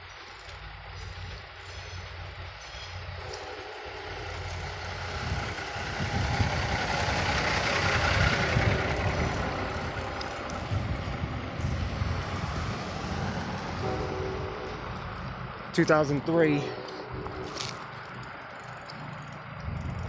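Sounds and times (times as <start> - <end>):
vehicle passing by: 3.0 - 20.0.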